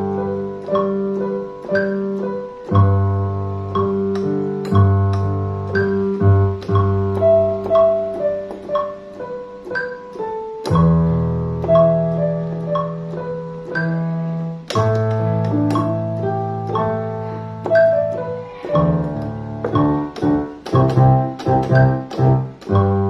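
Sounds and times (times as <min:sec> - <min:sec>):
slow piano melody with chords: 0:00.0 - 0:23.0.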